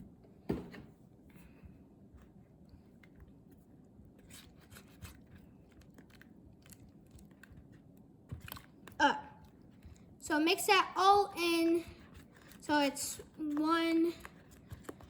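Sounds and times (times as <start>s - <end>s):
batter stirred in a mixing bowl: 1.1s - 15.0s.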